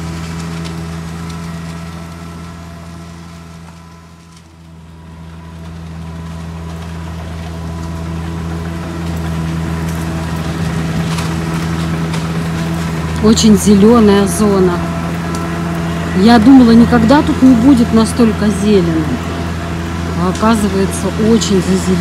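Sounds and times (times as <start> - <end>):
tractor engine humming: 0.0 - 22.0.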